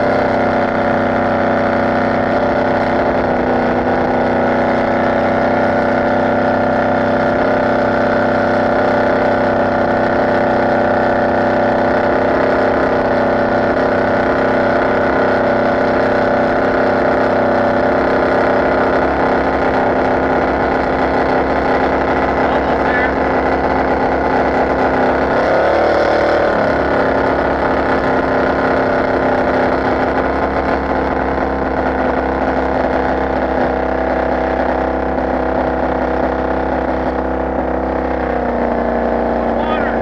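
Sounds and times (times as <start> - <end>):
boat engine running: 0.0 - 40.0.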